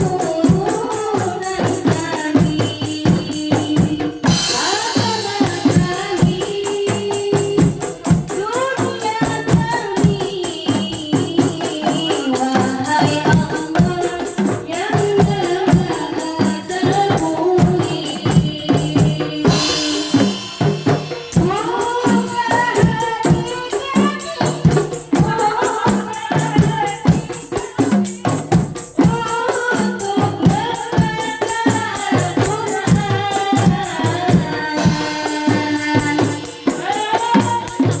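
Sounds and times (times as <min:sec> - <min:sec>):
fast percussion beat: 0:00.0 - 0:38.0.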